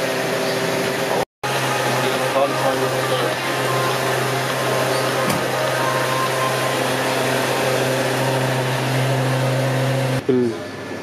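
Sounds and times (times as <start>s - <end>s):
fuel pump humming: 0.0s - 10.2s.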